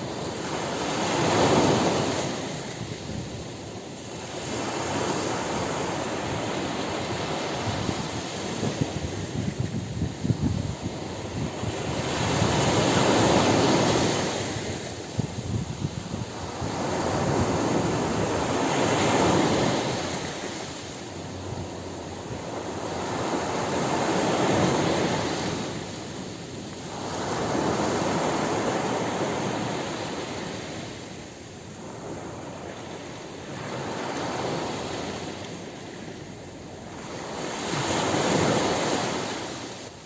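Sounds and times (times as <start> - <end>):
ocean surf breaking: 0.0 - 40.0.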